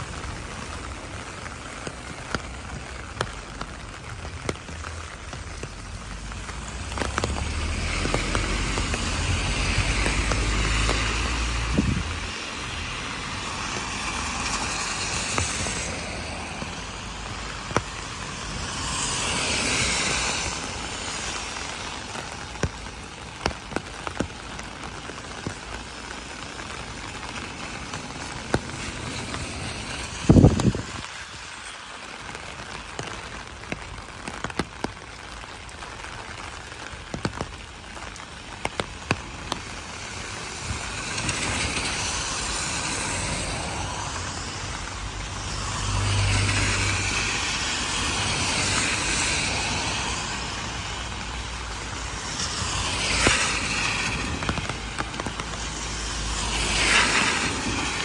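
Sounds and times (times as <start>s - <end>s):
car tyres hissing on wet road: 0.0s - 58.0s
heavy rain on wet street: 0.0s - 58.0s.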